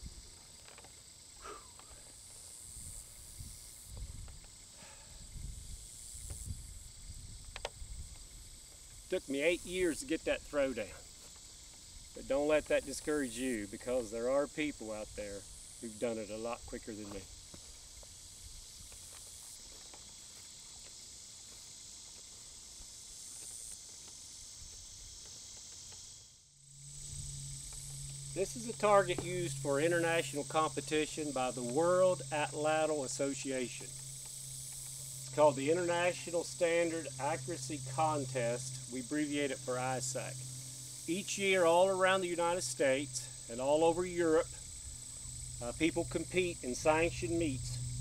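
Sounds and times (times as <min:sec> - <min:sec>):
high-pitched insect hiss: 0:00.0 - 0:48.0.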